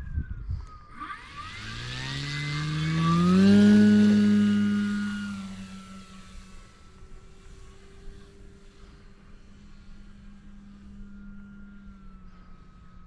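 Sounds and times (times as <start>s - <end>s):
model plane motor and propeller: 0.0s - 13.0s.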